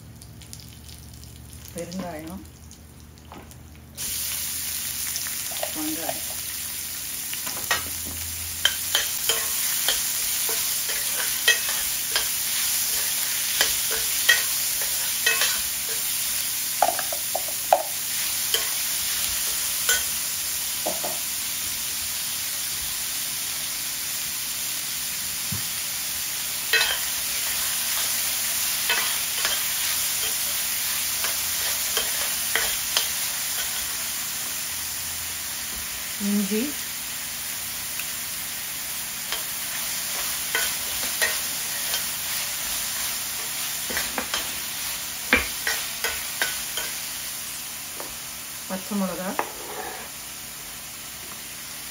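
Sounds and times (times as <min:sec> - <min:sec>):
onion sizzling in a pan: 0:00.0 - 0:51.9.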